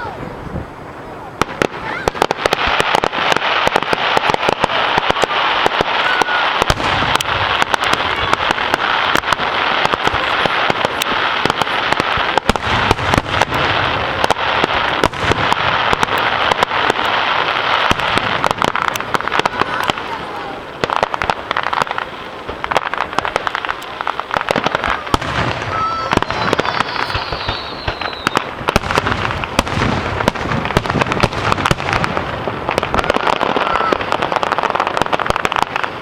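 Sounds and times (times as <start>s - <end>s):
deep low fireworks rumbles: 0.0s - 36.0s
fireworks crackling: 0.0s - 36.0s.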